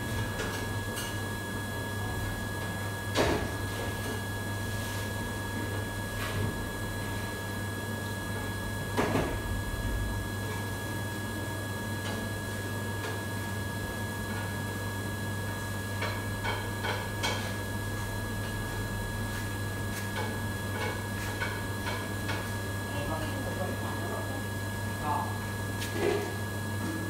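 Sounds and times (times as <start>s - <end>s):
equipment hum with high whine: 0.0s - 27.0s.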